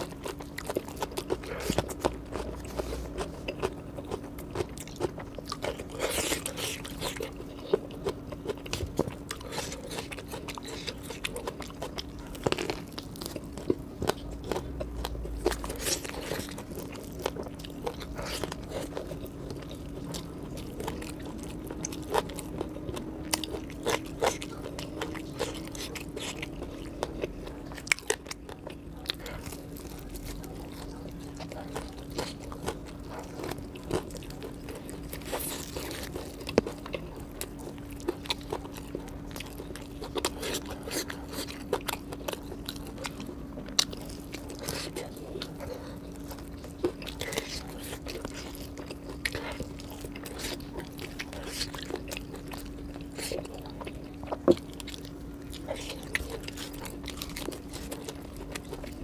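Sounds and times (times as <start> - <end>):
man chewing crispy food: 0.0 - 59.0.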